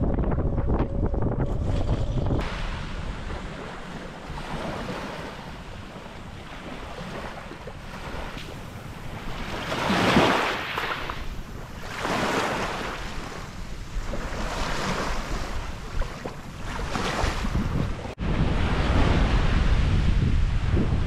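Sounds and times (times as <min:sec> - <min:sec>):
wind on microphone: 0:00.0 - 0:21.0
small waves lapping on sand: 0:02.4 - 0:19.7.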